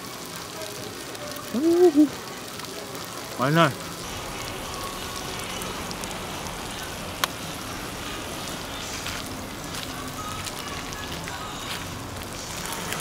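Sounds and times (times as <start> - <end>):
meat sizzling on grill: 0.0 - 13.0.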